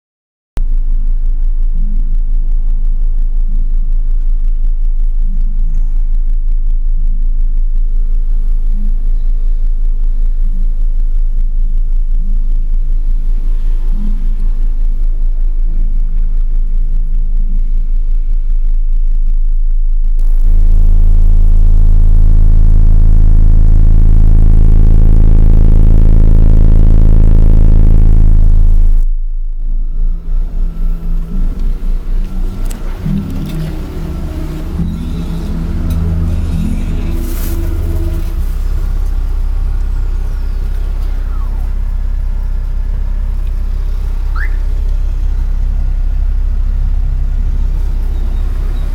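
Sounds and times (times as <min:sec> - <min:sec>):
loud deep bass tone: 0:00.6 - 0:48.9.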